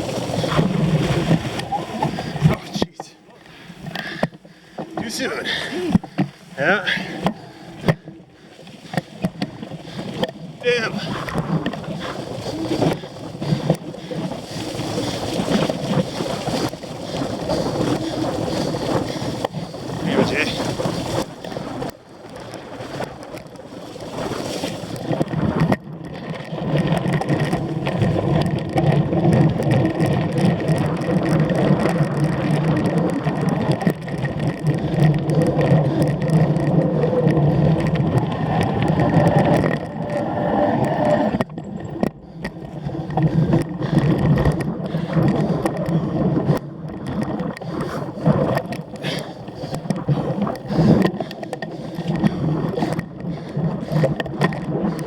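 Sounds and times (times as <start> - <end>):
bike clicks and rattles: 0.0 - 55.0
bike tyres and drivetrain rumble: 0.0 - 55.0.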